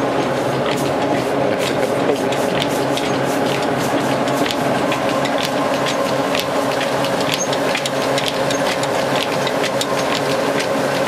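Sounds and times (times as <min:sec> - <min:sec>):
rice mill mechanical hum: 0:00.0 - 0:11.0.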